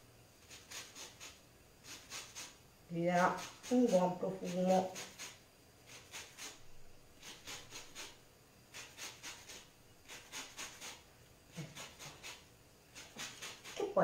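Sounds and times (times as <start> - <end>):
lemon rasping on grater: 0.4 - 14.0.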